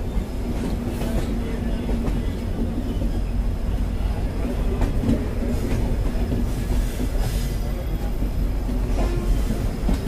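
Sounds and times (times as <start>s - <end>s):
steel wheels rumbling on rail: 0.0s - 10.0s.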